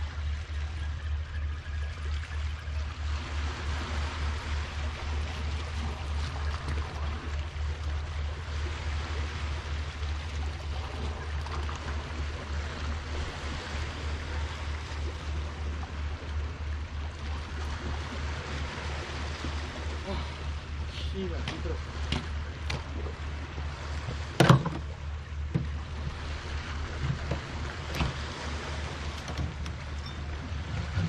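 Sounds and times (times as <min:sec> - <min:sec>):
seawater washing against seawall: 0:00.0 - 0:31.0
wind rumble on microphone: 0:00.0 - 0:31.0.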